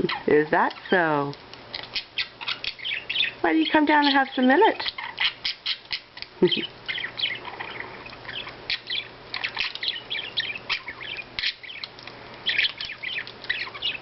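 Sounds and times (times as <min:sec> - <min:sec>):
budgerigars chirping: 0:00.0 - 0:14.0.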